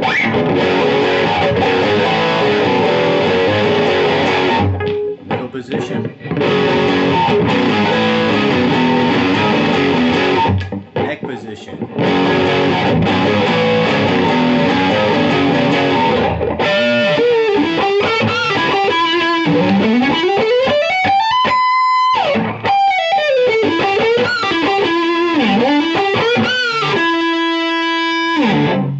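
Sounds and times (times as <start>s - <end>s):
distorted electric guitar: 0.0s - 28.9s.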